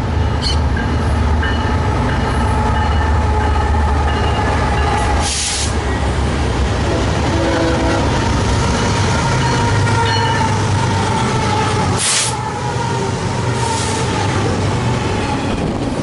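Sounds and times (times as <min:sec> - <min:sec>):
diesel locomotive engine drone: 0:00.0 - 0:16.0
train wheels on rails: 0:00.0 - 0:16.0.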